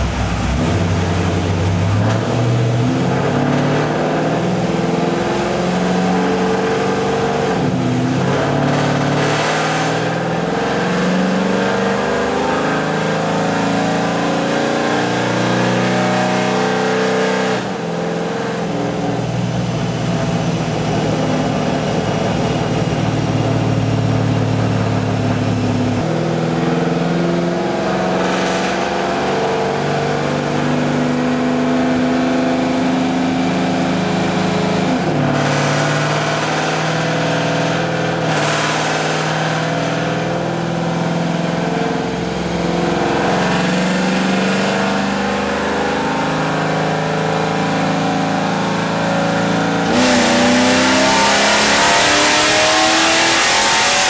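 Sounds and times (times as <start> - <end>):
car engine on dyno: 0.0 - 54.0.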